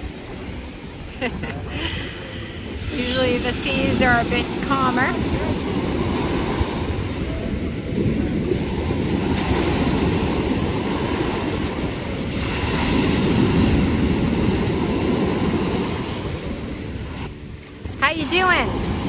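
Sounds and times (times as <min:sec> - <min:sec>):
rough sea surf breaking: 0:00.0 - 0:19.0.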